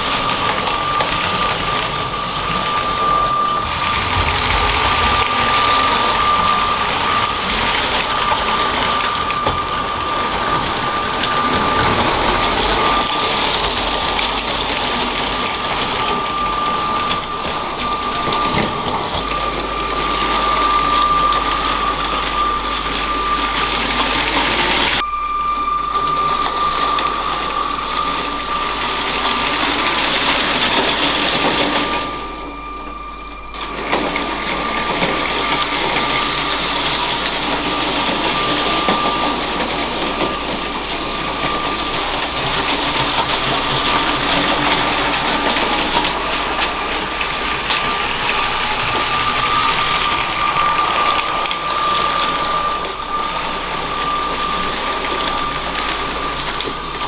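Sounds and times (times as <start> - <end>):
wheels rattling on plastic track: 0.0 - 25.0, 25.8 - 57.0
toy train motor whine: 0.0 - 57.0.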